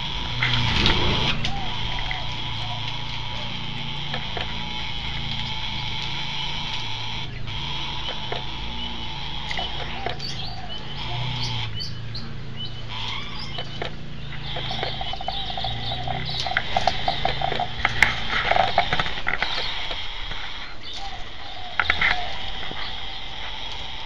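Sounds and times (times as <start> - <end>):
cockatoo raspy call: 0.0 - 24.0.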